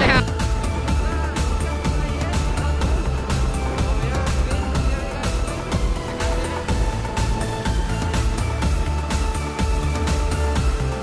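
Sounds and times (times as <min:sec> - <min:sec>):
music with strong bass beat: 0:00.0 - 0:11.0.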